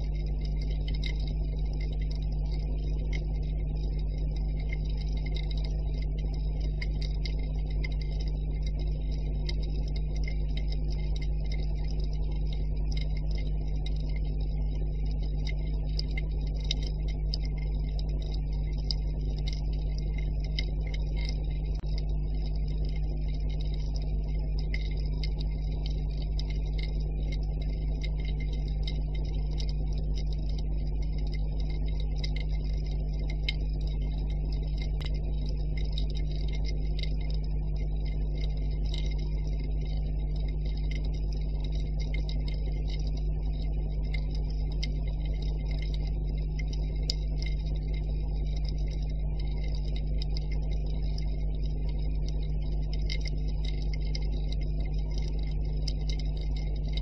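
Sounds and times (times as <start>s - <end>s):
crackling underwater clicks: 0.0s - 57.0s
low underwater rumble: 0.0s - 57.0s.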